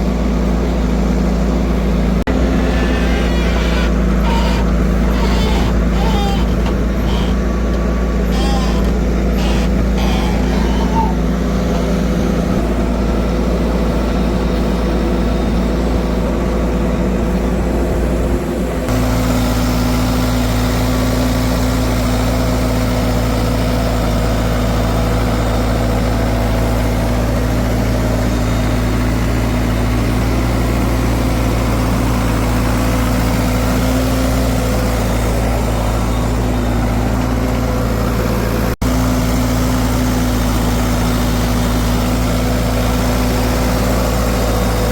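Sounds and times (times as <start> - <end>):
heavy vehicle engine idling: 0.0 - 44.9.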